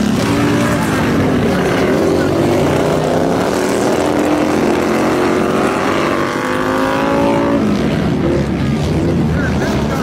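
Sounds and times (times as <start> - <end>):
racing lawn mower engines: 0.0 - 10.0.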